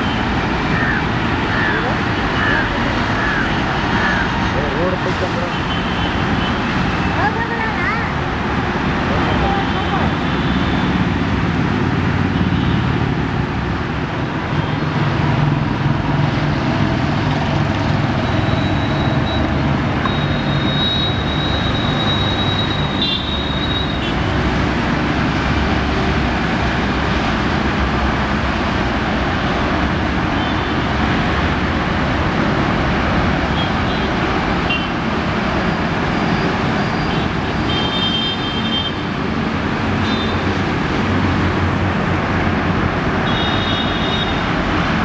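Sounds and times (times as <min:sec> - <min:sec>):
traffic-like running noise: 0:00.0 - 0:45.0.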